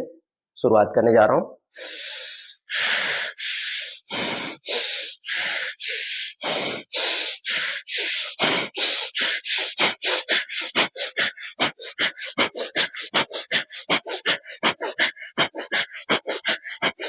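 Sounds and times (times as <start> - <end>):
rapid forceful nasal breathing: 1.8 - 17.0.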